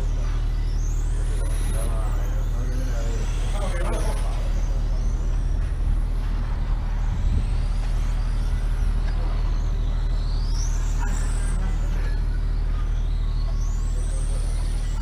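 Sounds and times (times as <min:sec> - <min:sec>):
racing motorbike engines whining: 0:00.0 - 0:15.0
steady low drone: 0:00.0 - 0:15.0.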